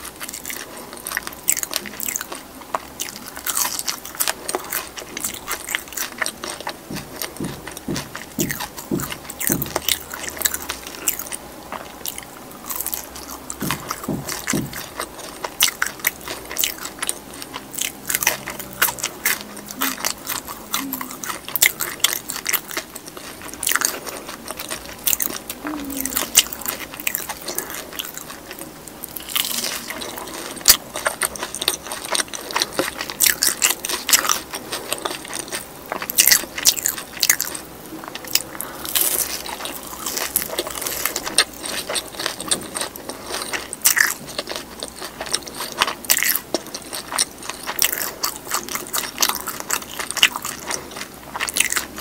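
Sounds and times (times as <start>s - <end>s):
crunchy chewing: 0.0s - 52.0s.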